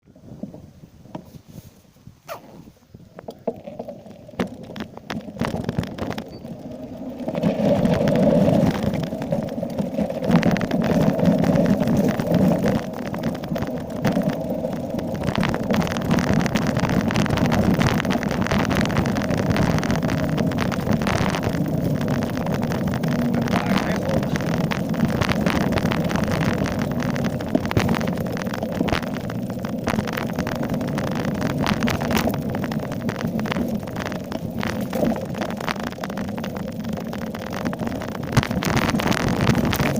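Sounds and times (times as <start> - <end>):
bike tyres rumbling over dirt: 0.0 - 39.9
wind on microphone: 0.0 - 39.9
bike clattering over bumps: 3.2 - 39.9.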